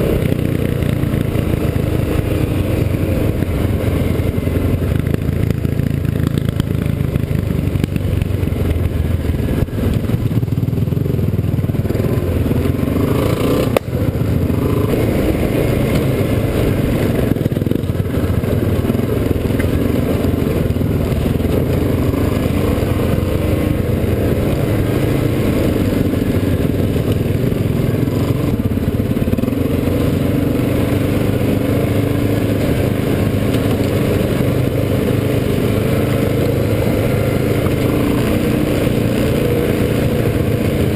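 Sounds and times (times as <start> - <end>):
quad bike engine running: 0.0 - 40.9.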